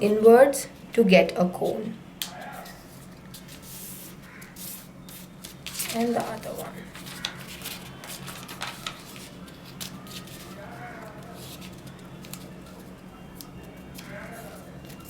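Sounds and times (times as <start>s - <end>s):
paper rustling and creasing: 2.2s - 15.0s.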